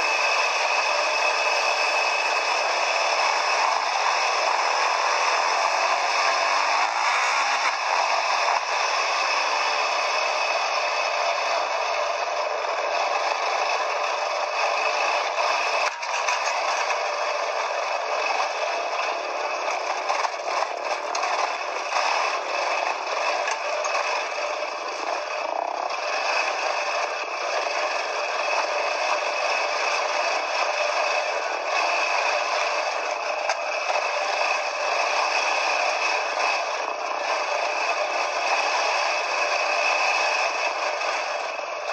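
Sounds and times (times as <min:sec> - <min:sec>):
quad bike rattling on dirt trail: 0:00.0 - 0:41.9.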